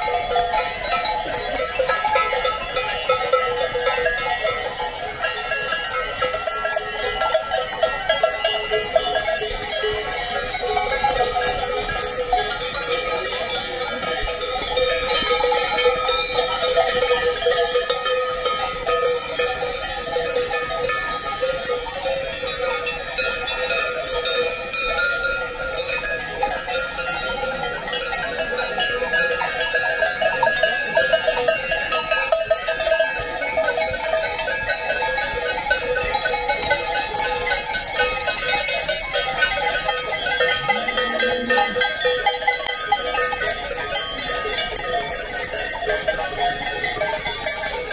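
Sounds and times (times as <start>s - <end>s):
cowbells clanging: 0.0s - 47.9s.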